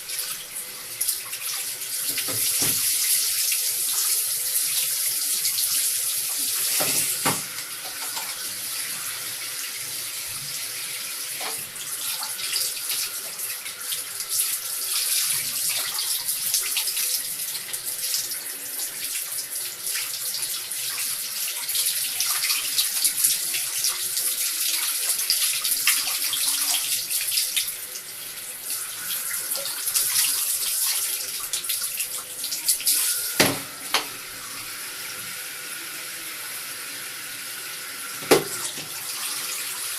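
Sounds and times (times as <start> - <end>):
tap water running and splashing: 0.0 - 39.9.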